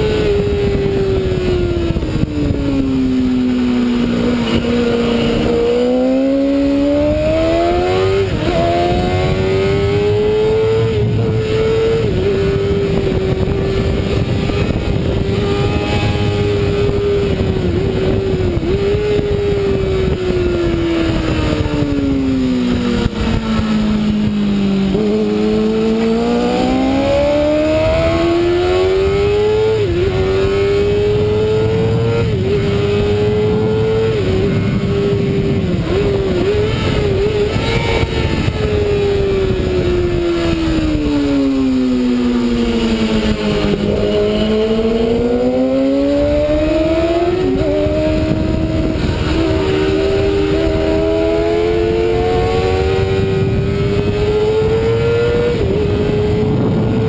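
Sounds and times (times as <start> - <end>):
motorcycle engine revving: 0.0 - 57.0
wind rush: 0.0 - 57.0.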